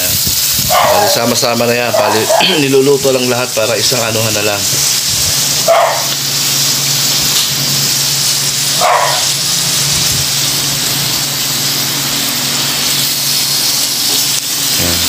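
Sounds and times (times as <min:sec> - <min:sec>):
meat sizzling on a grill pan: 0:00.0 - 0:15.0.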